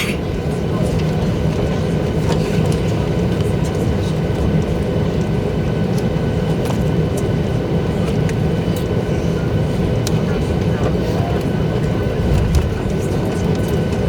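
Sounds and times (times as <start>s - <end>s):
jet engines running: 0.2s - 14.0s.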